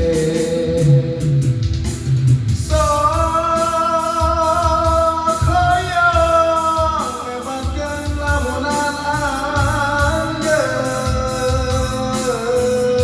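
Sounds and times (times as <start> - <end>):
pop song with band: 0.0 - 13.0.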